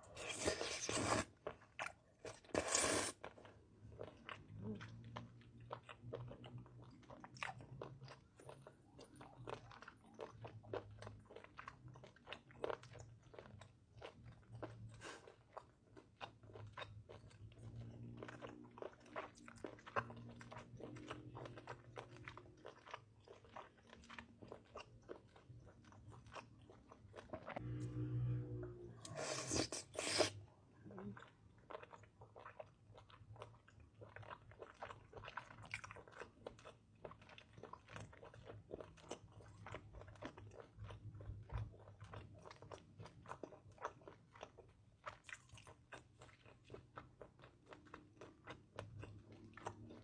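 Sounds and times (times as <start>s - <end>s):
wet crunchy chewing: 0.1s - 28.0s, 31.2s - 50.0s.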